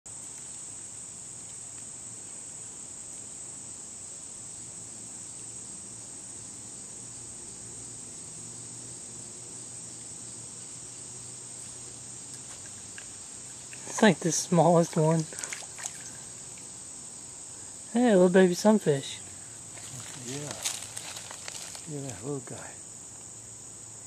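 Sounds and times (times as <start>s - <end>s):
insects droning: 0.1s - 24.0s.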